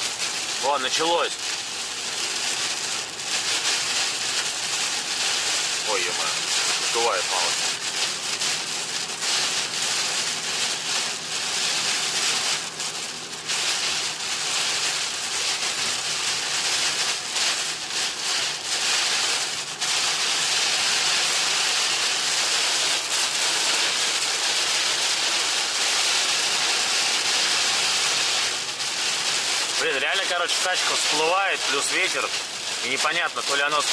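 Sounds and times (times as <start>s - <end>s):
heavy rain on car roof: 0.0s - 33.9s.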